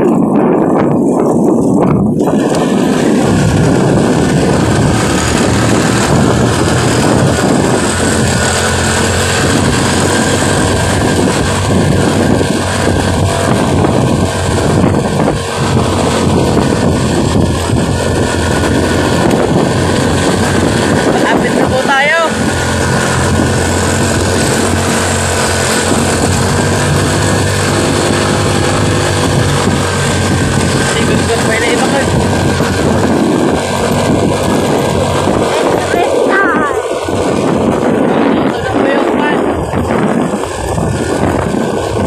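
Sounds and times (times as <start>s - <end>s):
loud rushing noise: 0.0s - 42.0s
motorcycle engine running: 0.0s - 42.0s.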